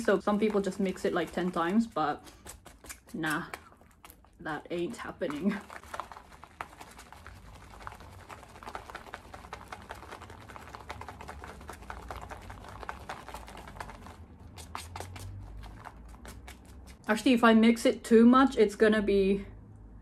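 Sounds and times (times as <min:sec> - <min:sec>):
sticky beans squelching when stirred: 0:00.0 - 0:17.1.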